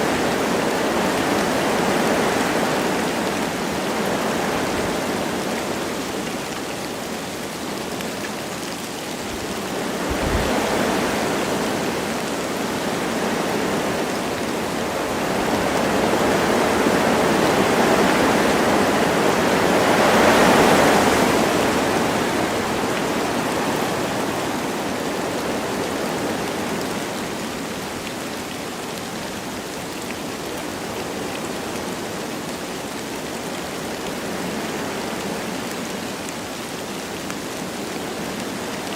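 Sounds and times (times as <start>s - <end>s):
light rain falling: 0.0s - 38.9s
wind gusting through trees: 0.0s - 38.9s.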